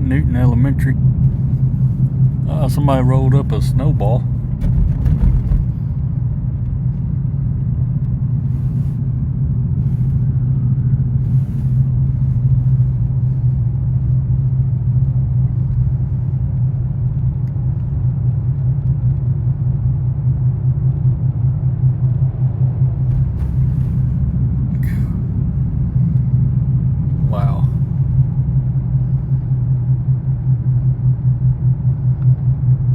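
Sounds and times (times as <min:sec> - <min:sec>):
vehicle engine and road drone: 0:00.0 - 0:32.9.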